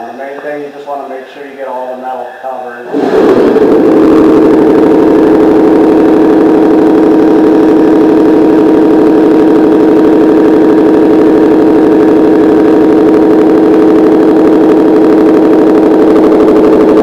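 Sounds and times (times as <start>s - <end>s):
shop machinery droning: 0.0s - 17.0s.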